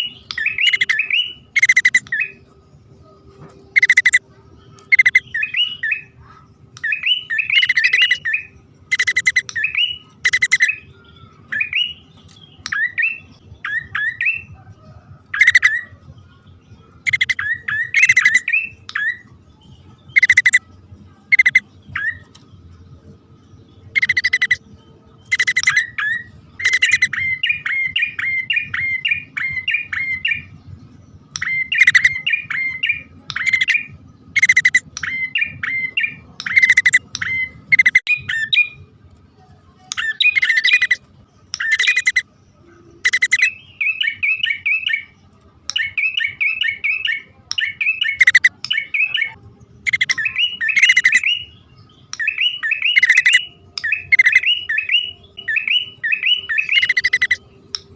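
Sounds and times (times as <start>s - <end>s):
birds calling with harsh rasping notes: 0.0s - 38.9s, 39.8s - 57.9s.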